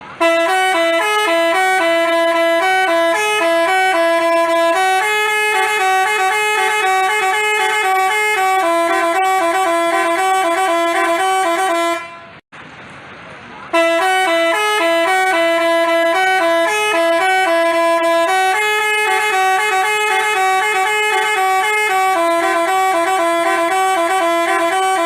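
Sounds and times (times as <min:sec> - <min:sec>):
multi-tone bus horn jingle: 0:00.0 - 0:12.4, 0:13.7 - 0:25.0.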